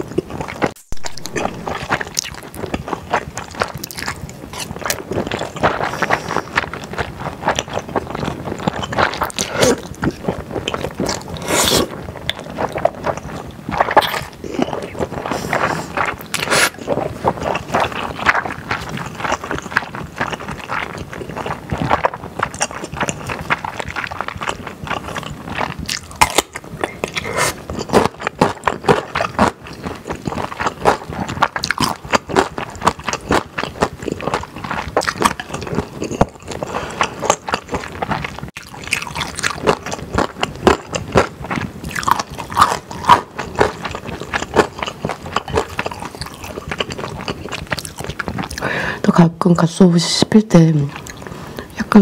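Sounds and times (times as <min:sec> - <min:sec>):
chewing with mouth clicks: 0:00.0 - 0:48.9, 0:50.9 - 0:51.7.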